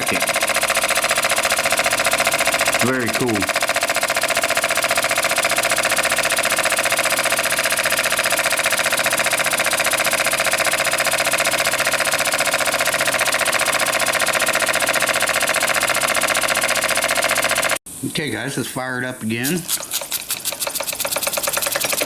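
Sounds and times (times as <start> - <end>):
small steam engine pulsing: 0.0 - 17.8, 19.4 - 22.0.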